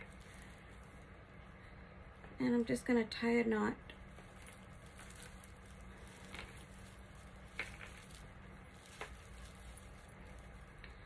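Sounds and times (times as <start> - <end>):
hands rustling tying twine: 0.0 - 2.7, 3.9 - 11.0.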